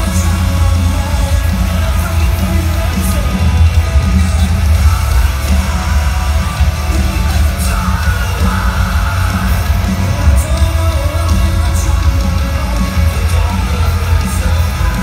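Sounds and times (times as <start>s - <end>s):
metal band playing live: 0.0s - 15.0s.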